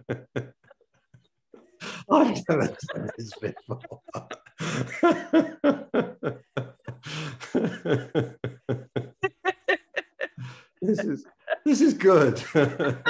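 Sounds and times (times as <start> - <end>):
man and woman laughing: 0.0 - 0.8, 1.8 - 13.0.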